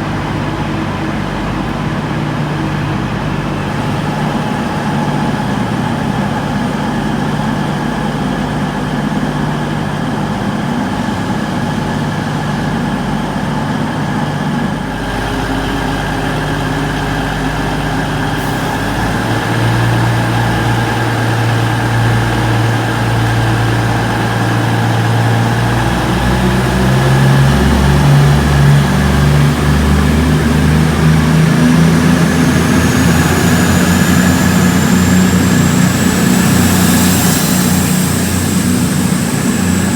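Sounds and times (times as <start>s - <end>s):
diesel train engine running: 0.0s - 39.9s
rising engine whine: 0.0s - 39.9s.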